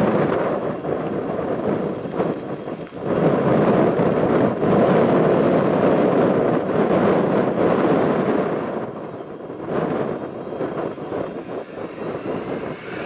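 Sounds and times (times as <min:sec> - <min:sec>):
jet engine: 0:00.0 - 0:13.0
wind buffeting microphone: 0:00.0 - 0:13.0.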